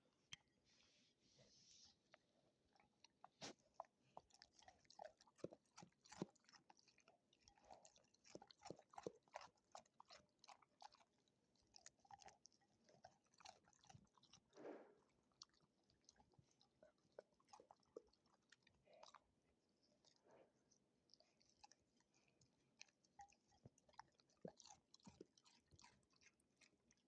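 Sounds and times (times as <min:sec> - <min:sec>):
dog chewing and crunching food: 0:02.6 - 0:27.0.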